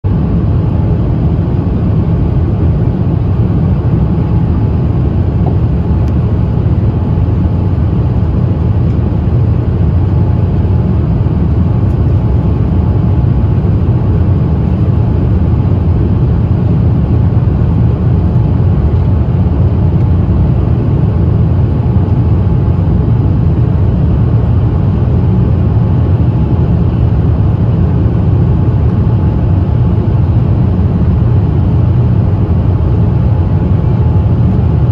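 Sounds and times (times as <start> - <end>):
airliner cabin drone: 0.0 - 34.9.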